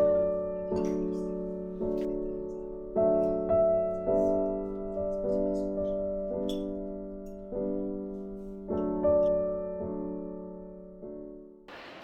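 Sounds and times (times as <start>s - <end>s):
gentle piano chords: 0.0s - 11.7s.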